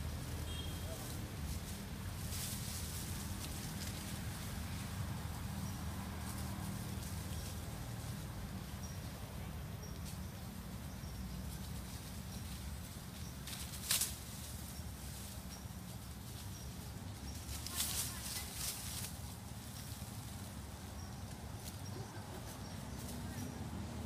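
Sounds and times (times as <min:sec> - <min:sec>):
rustle of dry leaf litter: 0:00.0 - 0:24.0.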